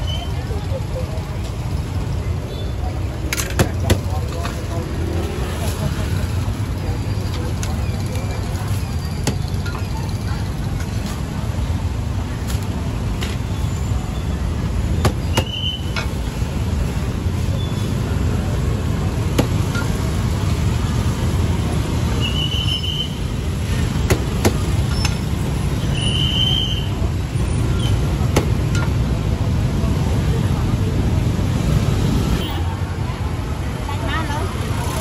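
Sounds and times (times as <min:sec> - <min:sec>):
scooter traffic rumble: 0:00.0 - 0:35.0.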